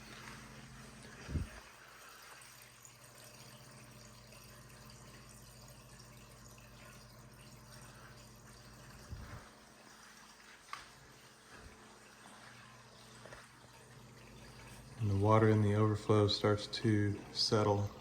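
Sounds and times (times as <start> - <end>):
pump humming: 0.0 - 18.0
water trickling and dripping: 0.0 - 18.0.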